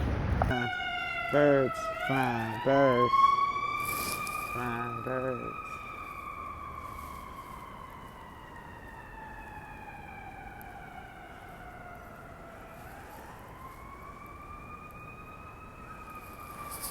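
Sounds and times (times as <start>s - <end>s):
emergency vehicle siren wailing: 0.2s - 16.9s.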